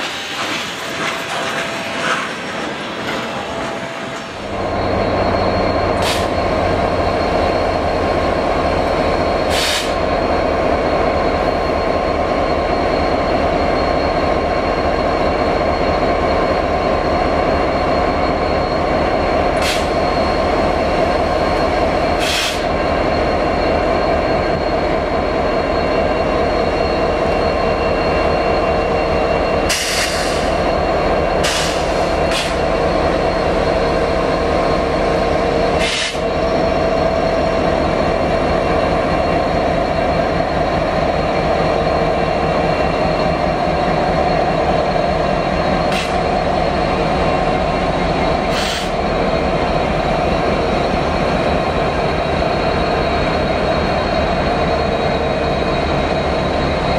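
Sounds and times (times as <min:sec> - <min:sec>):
diesel locomotive engines droning: 0:00.0 - 0:56.9.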